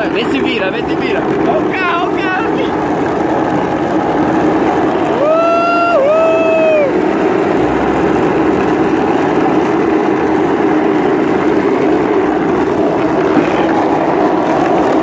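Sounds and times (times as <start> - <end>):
steel balls rolling on asphalt: 0.0 - 15.0.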